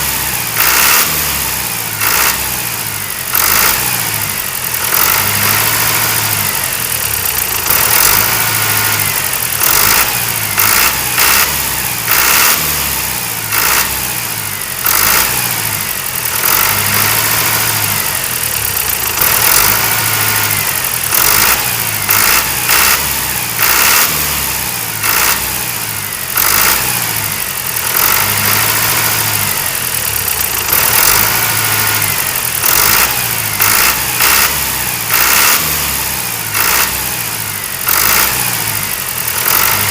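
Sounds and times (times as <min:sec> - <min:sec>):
engine running in pulses: 0:00.0 - 0:39.9.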